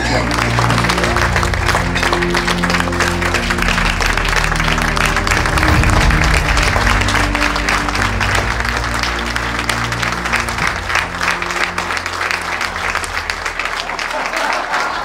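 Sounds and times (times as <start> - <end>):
audience applauding: 0.0 - 15.0
music of low sustained notes: 0.0 - 15.0.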